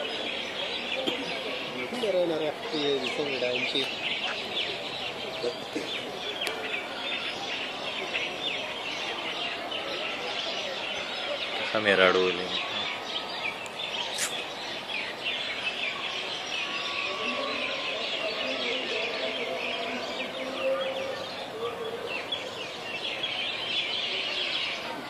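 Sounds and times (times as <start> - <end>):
caged birds chirping: 0.0 - 25.0.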